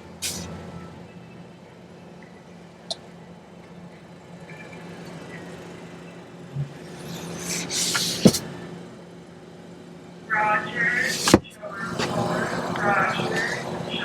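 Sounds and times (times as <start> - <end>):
vehicle hum: 0.0 - 14.0.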